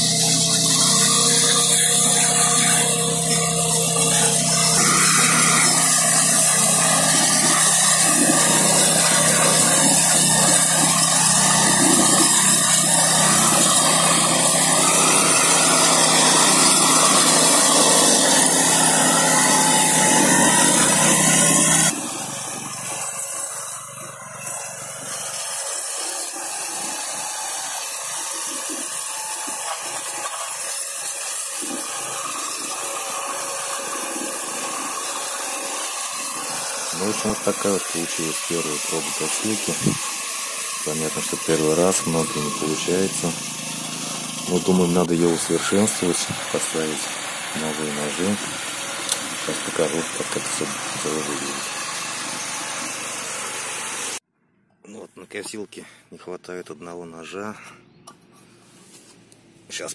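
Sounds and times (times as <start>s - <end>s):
petrol engine running at high speed: 0.0s - 30.4s, 31.6s - 54.2s.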